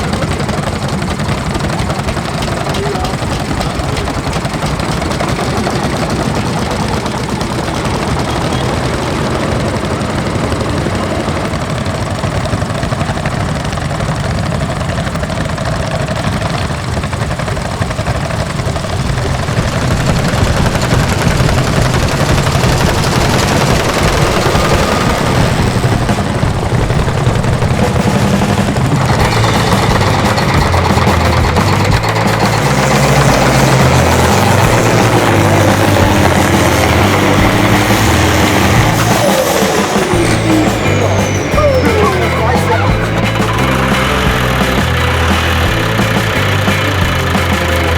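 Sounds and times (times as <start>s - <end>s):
tractor engine exhaust beats: 0.0s - 47.9s.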